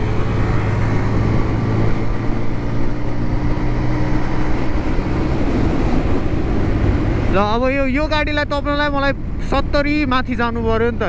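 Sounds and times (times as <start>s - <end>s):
motorcycle engine hum: 0.0s - 11.0s
wind and road rush: 0.0s - 11.0s.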